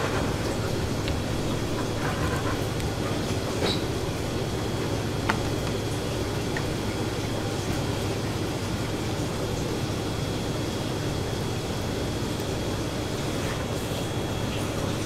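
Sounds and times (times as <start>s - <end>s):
ventilation fan humming: 0.0s - 15.0s.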